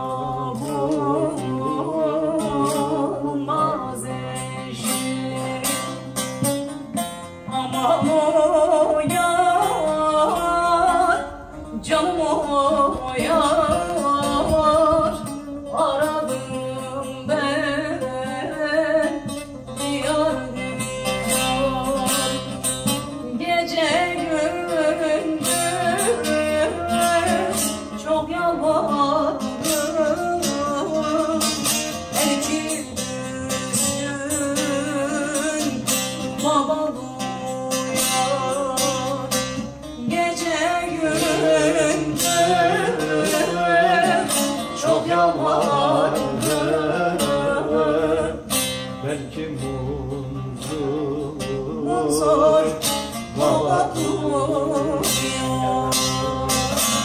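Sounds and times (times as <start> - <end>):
long-necked lute plucked and strummed: 0.0 - 57.0
woman singing folk song: 0.0 - 57.0.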